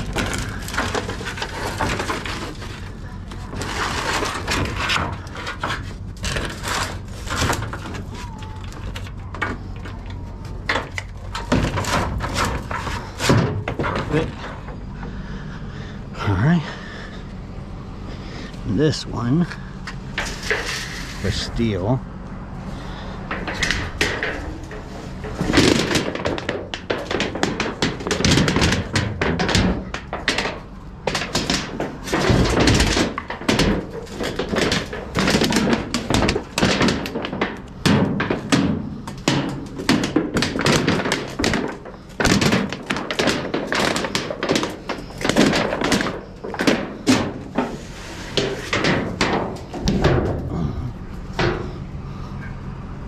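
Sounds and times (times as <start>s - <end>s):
scrap metal clanking: 0.0s - 53.0s.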